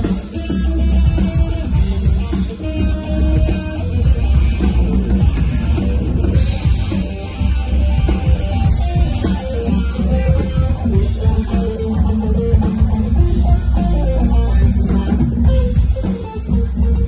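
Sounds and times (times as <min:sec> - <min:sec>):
bass guitar: 0:00.0 - 0:17.0
drum kit: 0:00.0 - 0:17.0
electric guitar lines: 0:00.0 - 0:17.0
rock band playing loudly: 0:00.0 - 0:17.0.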